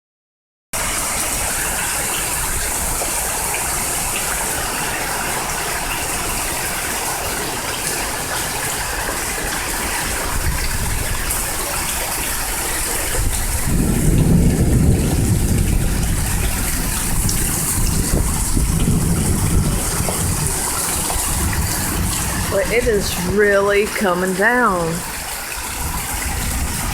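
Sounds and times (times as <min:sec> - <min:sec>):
hard rain pouring: 0:00.8 - 0:26.9.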